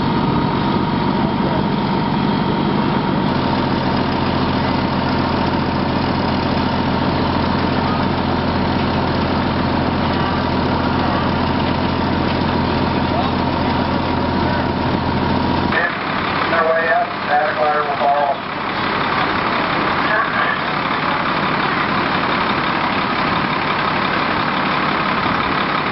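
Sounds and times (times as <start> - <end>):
fire truck engine idling: 0.0 - 25.9.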